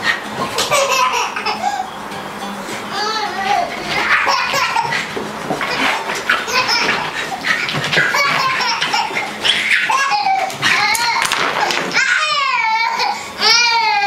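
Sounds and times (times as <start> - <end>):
baby laughing: 0.0 - 1.9, 2.9 - 14.0.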